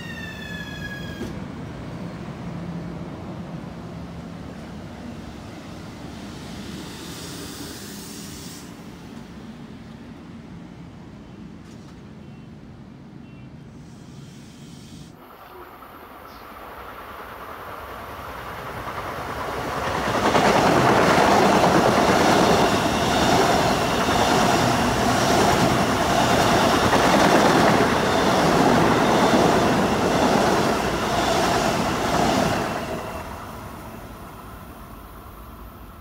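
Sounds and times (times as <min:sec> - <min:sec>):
electric commuter train passing: 0:00.0 - 0:36.0.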